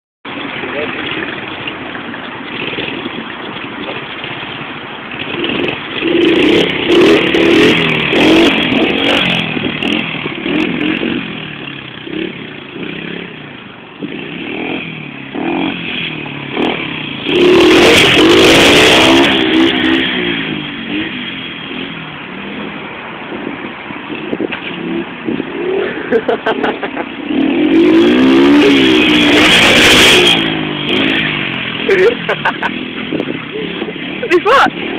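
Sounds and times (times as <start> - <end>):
motorbike engine revving: 0.3 - 34.9.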